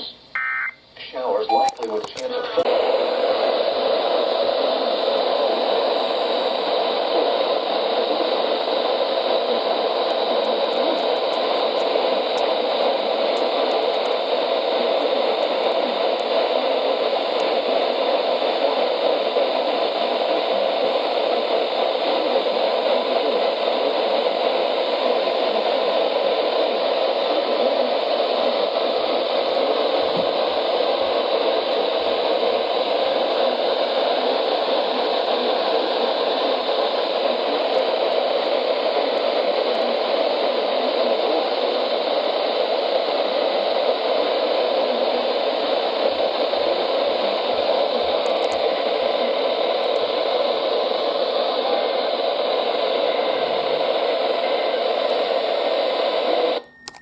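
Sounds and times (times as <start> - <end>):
radio static hiss: 0.0 - 56.6.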